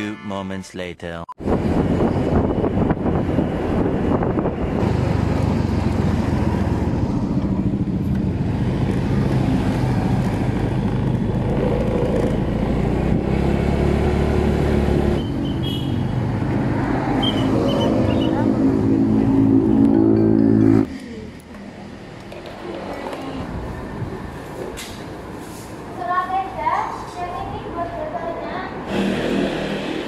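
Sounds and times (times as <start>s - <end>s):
road noise: 0.0s - 30.0s.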